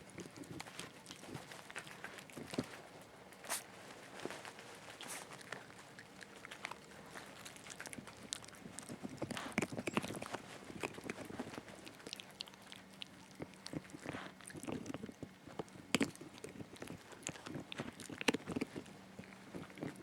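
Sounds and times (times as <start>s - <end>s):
puppy gnawing chew stick: 0.0s - 20.0s.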